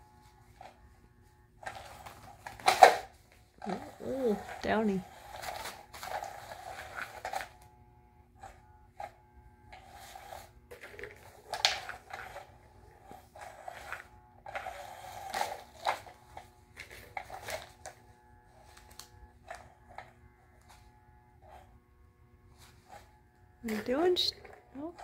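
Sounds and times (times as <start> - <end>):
toy motor whine: 0.0 - 21.8, 22.5 - 25.0.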